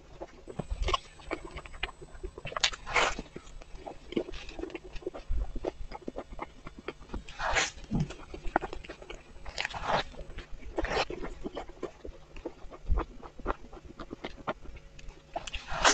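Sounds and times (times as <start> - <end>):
person chewing wet food: 0.0 - 15.9.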